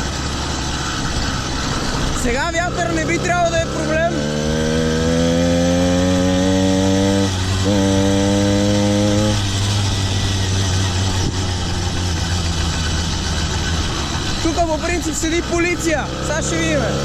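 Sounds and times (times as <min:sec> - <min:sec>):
rush of wind and road: 0:00.0 - 0:17.0.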